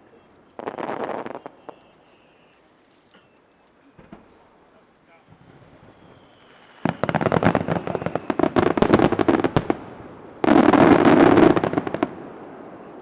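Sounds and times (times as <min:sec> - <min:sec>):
firework crackling: 0:00.0 - 0:02.8, 0:04.0 - 0:13.0.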